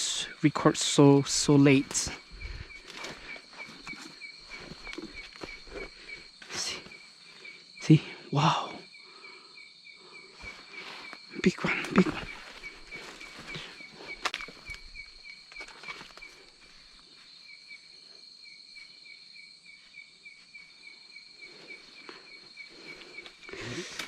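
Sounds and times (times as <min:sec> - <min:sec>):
insects trilling and chirping: 0:00.0 - 0:24.0.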